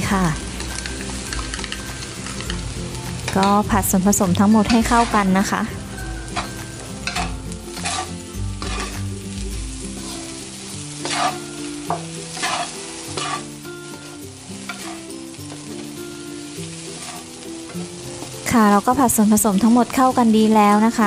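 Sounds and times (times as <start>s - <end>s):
rice sizzling: 0.0s - 21.0s
spatula scraping wok: 0.6s - 18.5s.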